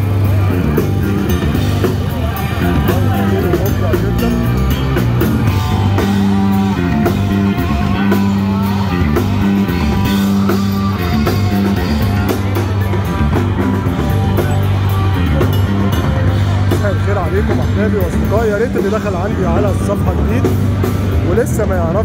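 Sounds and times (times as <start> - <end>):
electric guitar: 0.0 - 22.0.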